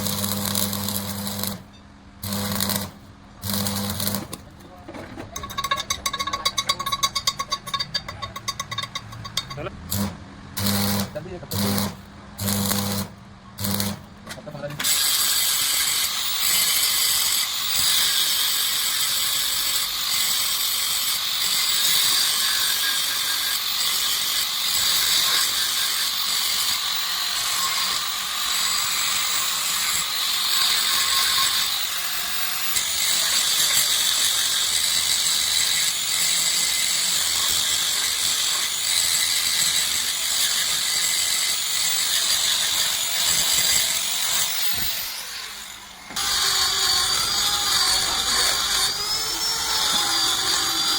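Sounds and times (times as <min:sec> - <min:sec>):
harsh metalworking noise: 0:00.0 - 0:50.9.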